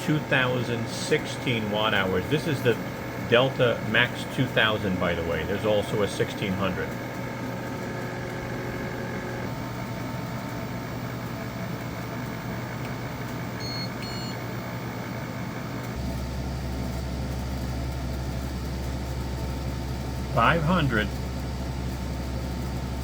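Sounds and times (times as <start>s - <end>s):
air conditioner hum and airflow: 0.0s - 23.0s.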